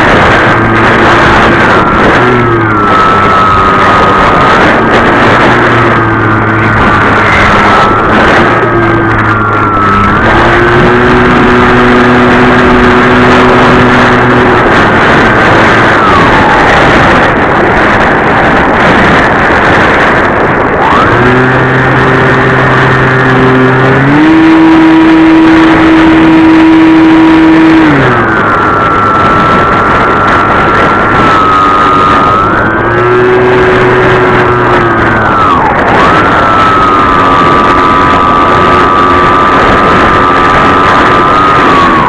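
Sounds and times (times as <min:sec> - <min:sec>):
electric motor and propeller whining: 0:00.0 - 0:42.0
wind rushing: 0:00.0 - 0:42.0.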